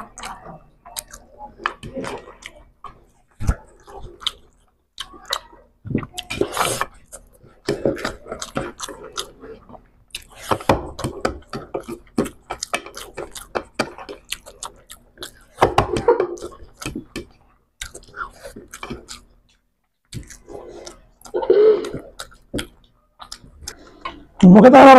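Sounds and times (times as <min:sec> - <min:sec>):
mouth clicks and smacks: 0:00.0 - 0:24.4
people chewing food: 0:00.0 - 0:24.9.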